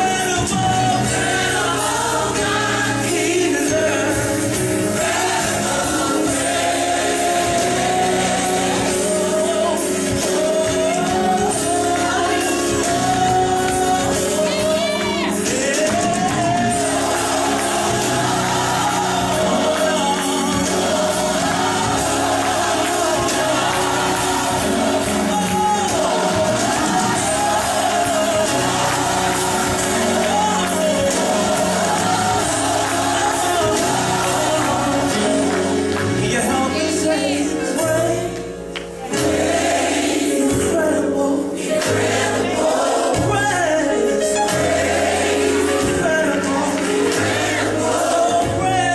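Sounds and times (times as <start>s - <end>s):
gospel song with sung notes: 0.0s - 48.9s
instrumental backing: 0.0s - 48.9s.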